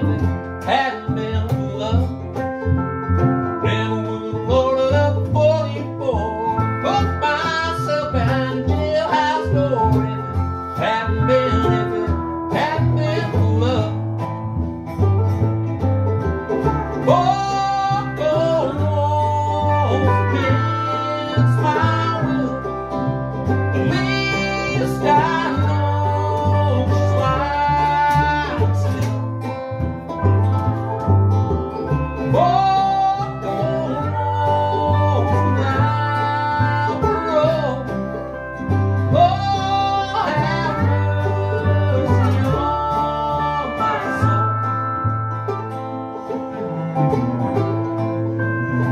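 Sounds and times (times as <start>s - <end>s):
acoustic country band: 0.0s - 48.9s.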